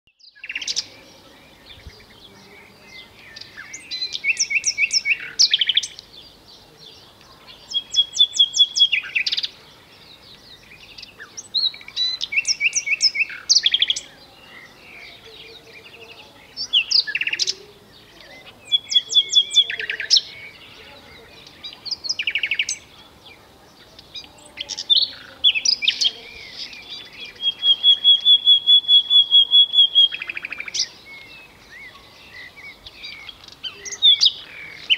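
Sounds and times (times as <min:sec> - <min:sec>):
nightingale singing: 0:00.1 - 0:34.9.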